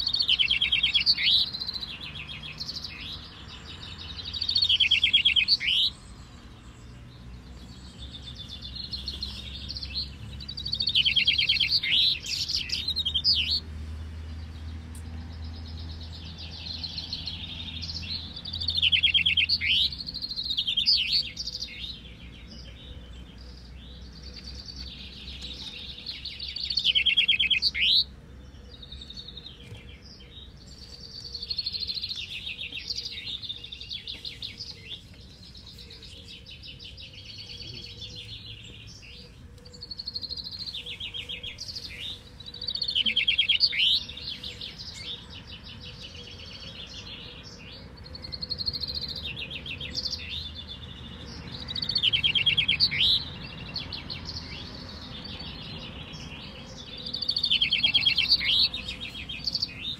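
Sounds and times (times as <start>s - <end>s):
chaffinches singing: 0.0s - 59.9s.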